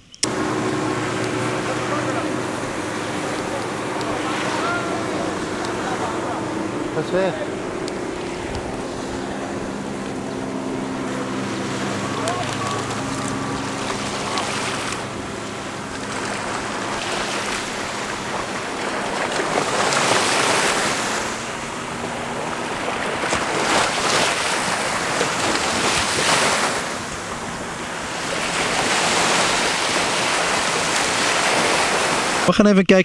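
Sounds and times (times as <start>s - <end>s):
speedboat engine droning: 0.0s - 32.6s
wind and surf rushing: 0.0s - 32.6s.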